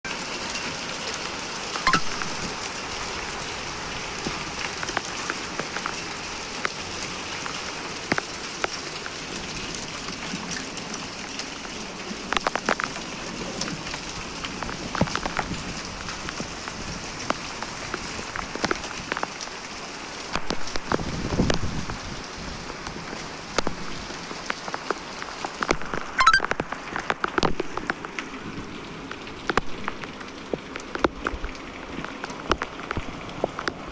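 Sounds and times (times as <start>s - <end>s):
rain splashing on hard surfaces: 0.0s - 33.9s
dripping water ticks: 1.8s - 21.7s, 22.8s - 33.9s.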